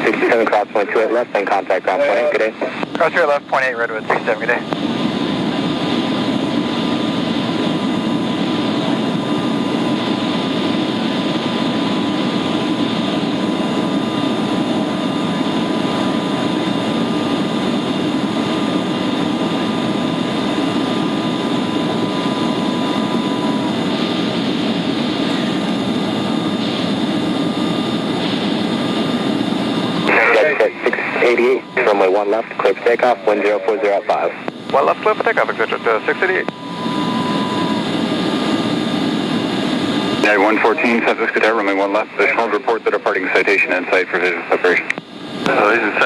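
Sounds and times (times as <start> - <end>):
faint steady whine: 0.0 - 46.0.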